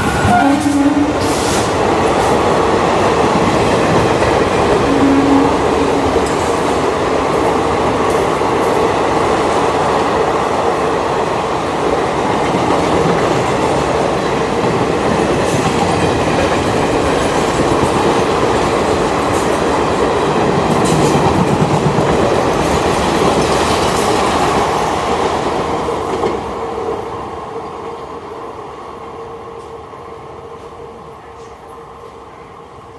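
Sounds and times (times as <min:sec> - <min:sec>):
train rushing past: 0:00.0 - 0:32.9.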